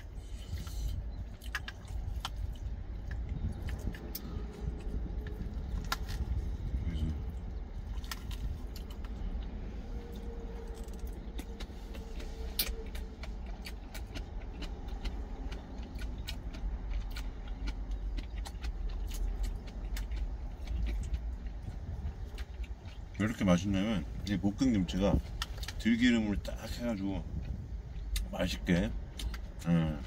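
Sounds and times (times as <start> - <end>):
chewing: 0.0 - 30.0
low steady rumble: 0.0 - 30.0.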